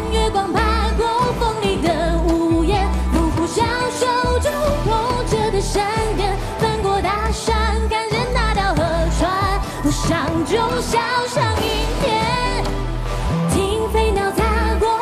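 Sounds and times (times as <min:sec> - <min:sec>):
rock band playing: 0:00.0 - 0:15.0
woman singing with vibrato: 0:00.0 - 0:15.0.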